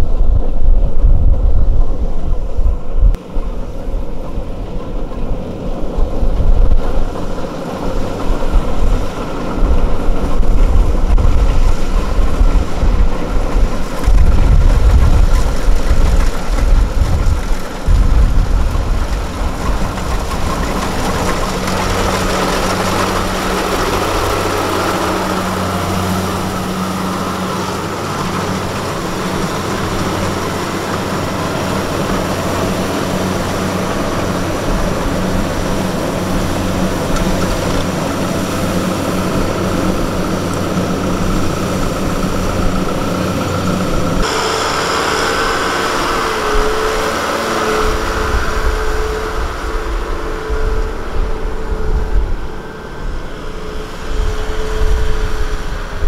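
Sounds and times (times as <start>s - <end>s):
farm machinery engine running: 0.0s - 56.0s.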